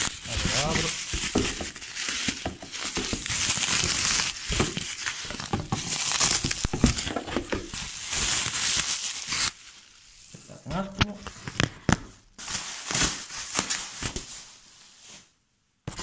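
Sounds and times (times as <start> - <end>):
plastic packaging crinkling: 0.0 - 15.4.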